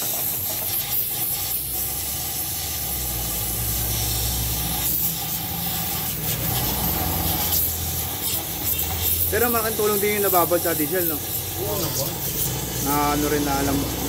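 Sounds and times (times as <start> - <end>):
steam cleaner hissing: 0.0 - 14.0.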